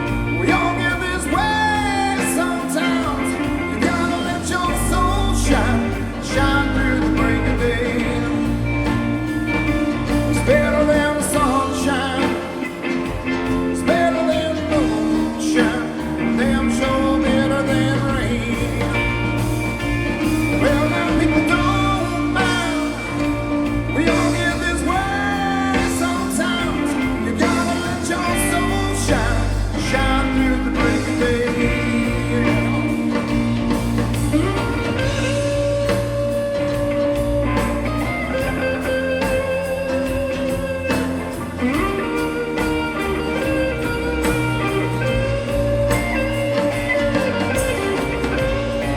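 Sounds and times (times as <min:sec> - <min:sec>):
bass line: 0:00.0 - 0:48.9
blues-rock band playing: 0:00.0 - 0:48.9
lead guitar bending pitch: 0:00.0 - 0:48.9.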